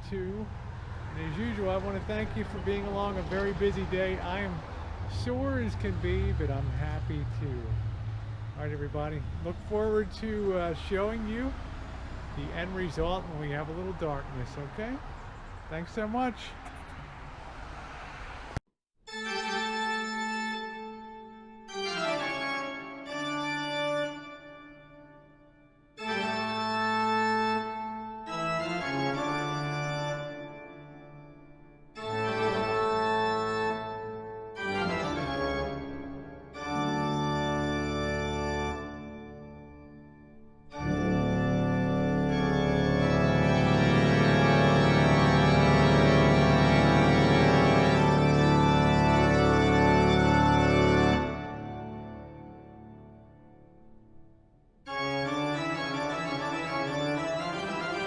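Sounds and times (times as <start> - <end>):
organ music: 0.0 - 16.8, 19.1 - 54.2, 54.8 - 58.0.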